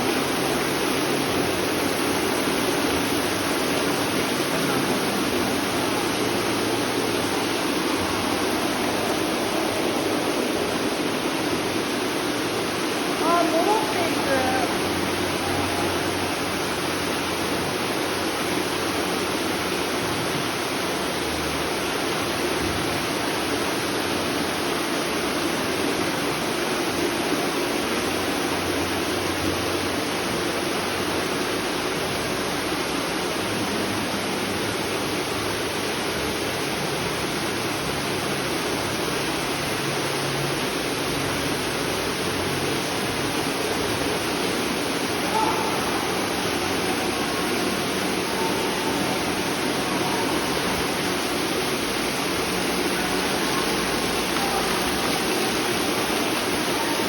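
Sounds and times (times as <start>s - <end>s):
running spring water: 0.0s - 57.0s.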